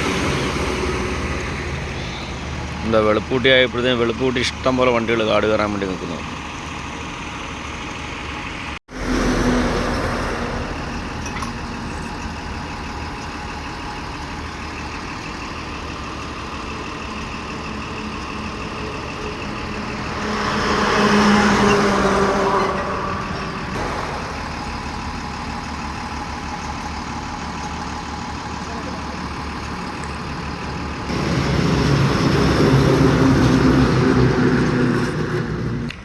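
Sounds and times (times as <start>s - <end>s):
heavy truck engine running: 0.0s - 36.0s.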